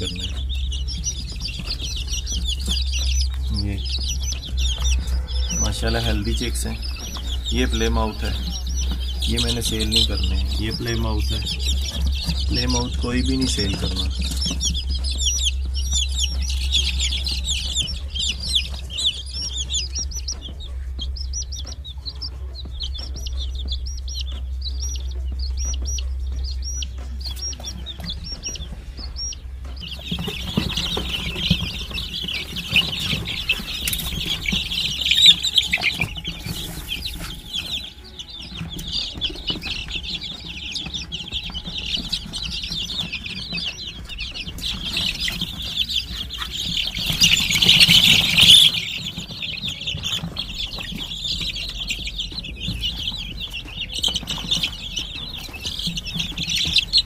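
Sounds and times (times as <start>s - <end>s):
chicks peeping: 0.0s - 57.0s
low steady hum: 0.0s - 57.0s.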